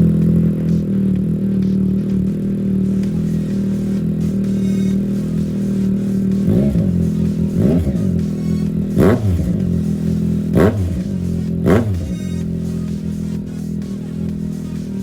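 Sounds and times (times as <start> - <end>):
motorcycle engine idling and blipping: 0.0 - 15.0.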